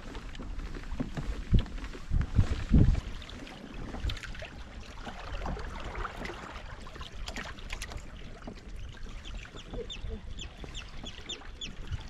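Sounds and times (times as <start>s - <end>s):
water splashing along kayak hull: 0.0s - 12.0s.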